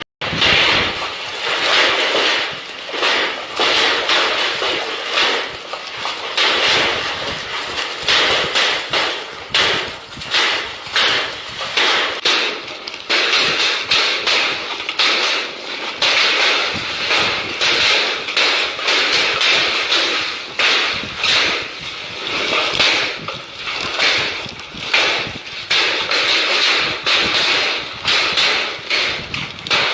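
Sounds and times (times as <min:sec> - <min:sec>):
hailstones pelting down: 0:00.2 - 0:29.9.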